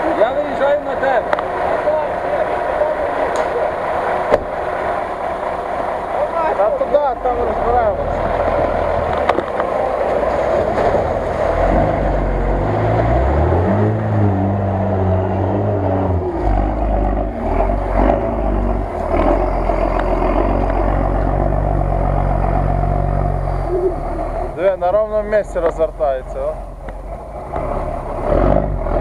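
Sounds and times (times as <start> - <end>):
off-road vehicle engine under load: 0.0 - 29.0.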